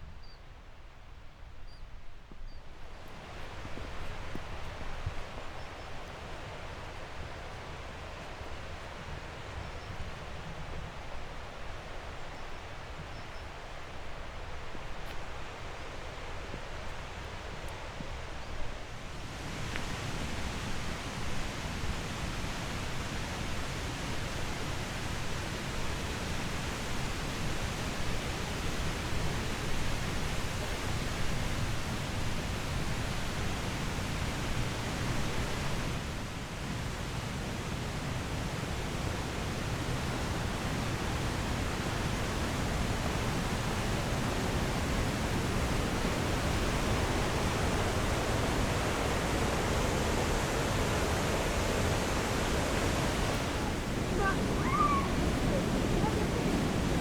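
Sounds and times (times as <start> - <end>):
rushing water: 3.0 - 57.0.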